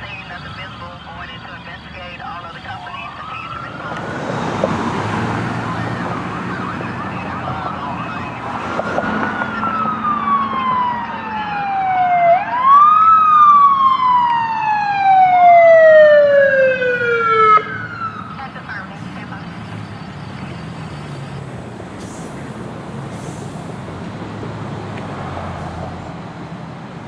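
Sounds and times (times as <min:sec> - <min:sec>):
fire engine siren wailing: 0:00.0 - 0:23.9.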